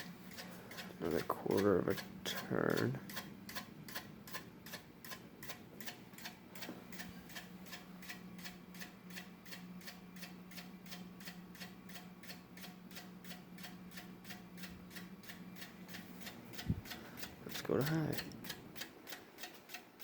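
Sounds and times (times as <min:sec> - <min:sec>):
ceiling fan humming: 0:00.0 - 0:20.0
fan motor ticking: 0:00.0 - 0:20.0.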